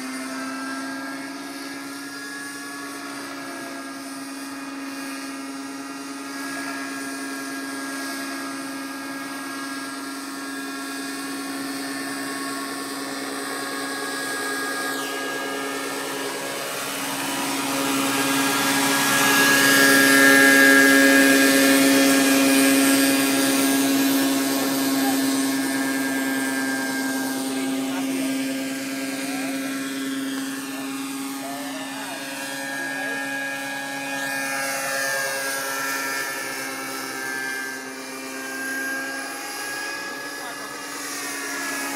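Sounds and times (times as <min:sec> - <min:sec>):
model helicopter motor whine: 0:00.0 - 0:41.9.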